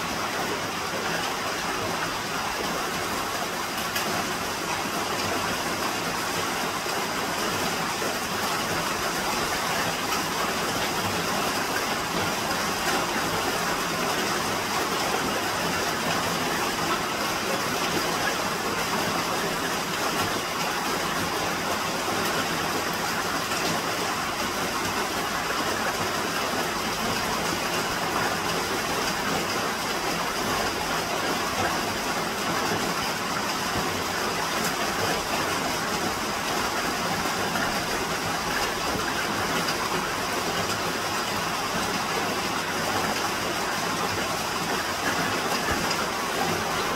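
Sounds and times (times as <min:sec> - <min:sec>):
water rushing: 0:00.0 - 0:46.9.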